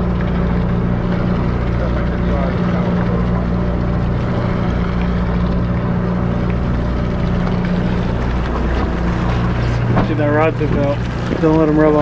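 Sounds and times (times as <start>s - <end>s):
boat engine humming: 0.0s - 12.0s
water washing along hull: 0.0s - 12.0s.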